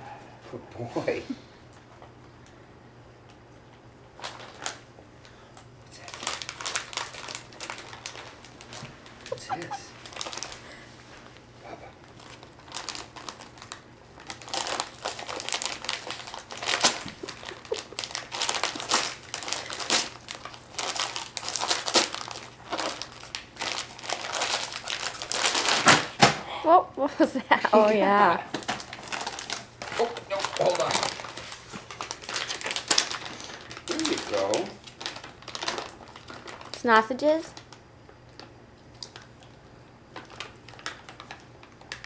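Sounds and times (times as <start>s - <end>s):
wrapping paper crinkling: 4.1s - 5.4s, 6.0s - 26.2s, 28.5s - 42.0s.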